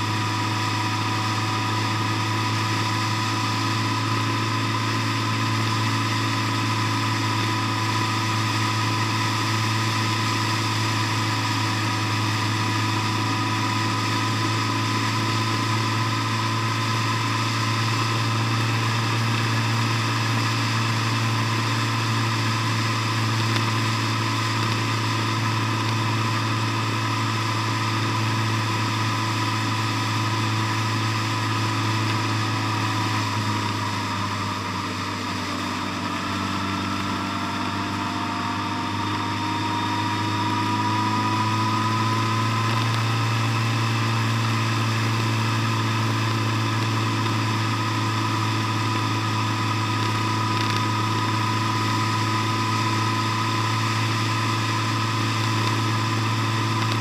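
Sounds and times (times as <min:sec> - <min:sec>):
thin steady whine: 0:00.0 - 0:57.0
vehicle engine cruising: 0:00.0 - 0:57.0.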